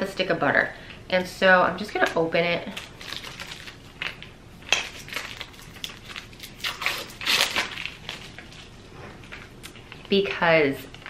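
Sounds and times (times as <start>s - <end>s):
plastic packaging crinkling: 2.0s - 11.0s.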